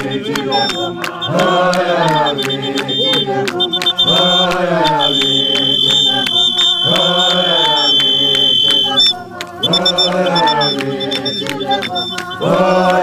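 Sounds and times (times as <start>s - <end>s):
high piping tone: 0.0s - 12.7s
group singing: 0.0s - 13.0s
steady hand clapping: 0.0s - 13.0s.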